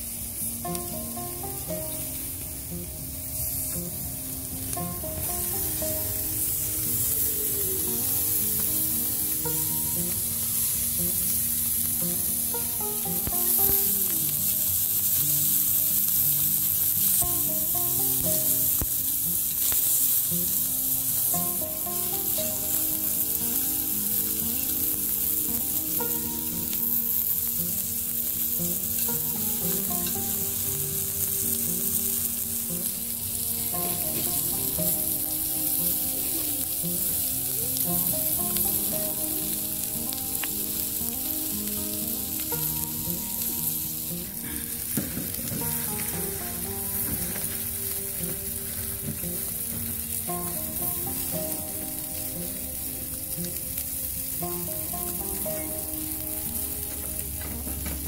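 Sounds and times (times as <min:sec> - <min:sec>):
chicken wings sizzling on grill: 0:00.0 - 0:58.0
soft background music: 0:00.0 - 0:58.0.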